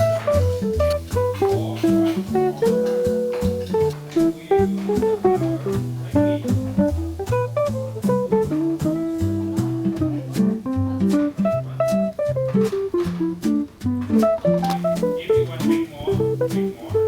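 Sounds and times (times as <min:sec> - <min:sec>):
lofi hip-hop beat with guitar: 0:00.0 - 0:17.0.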